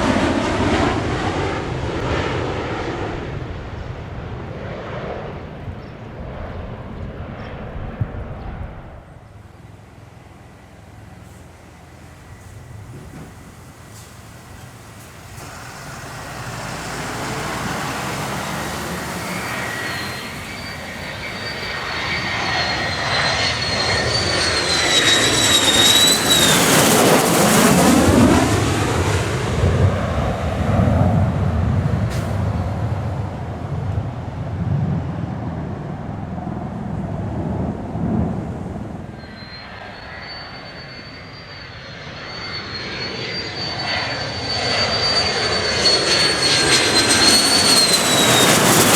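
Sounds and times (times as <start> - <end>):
jet engine whine passing: 0.0 - 48.9
low jet rumble: 0.0 - 48.9.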